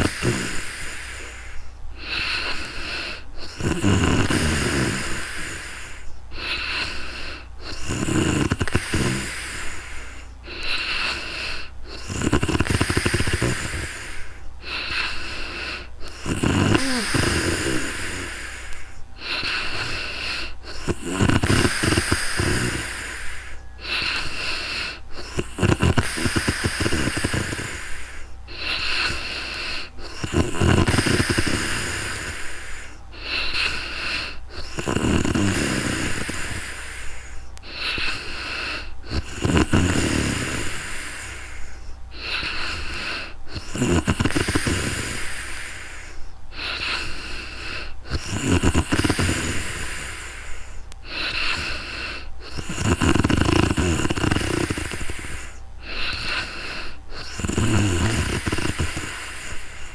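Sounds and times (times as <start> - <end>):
airy breathing: 0.0 - 59.9
woman snoring: 0.0 - 59.9.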